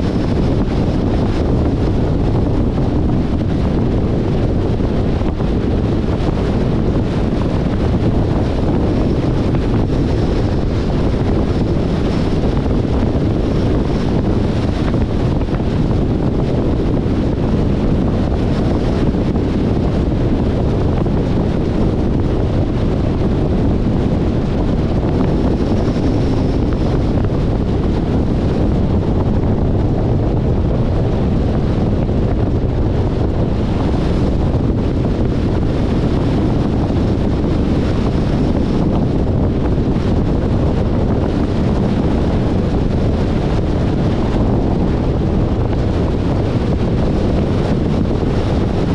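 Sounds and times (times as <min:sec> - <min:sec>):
car driving on road: 0:00.0 - 0:48.9
wind rush on microphone: 0:00.0 - 0:48.9.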